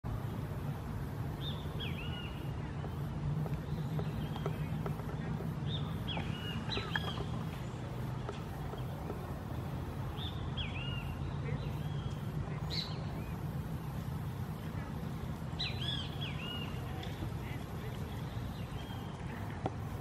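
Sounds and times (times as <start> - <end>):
steady low hum: 0.1 - 20.0
birds singing whistled notes: 1.4 - 13.8, 14.5 - 20.0.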